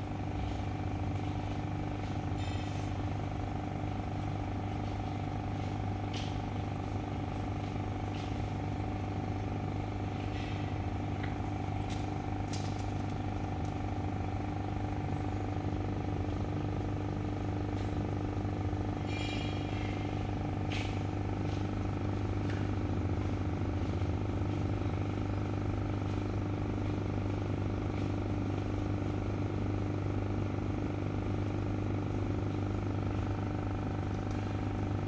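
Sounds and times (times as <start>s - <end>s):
aquarium air pump humming: 0.0s - 35.0s.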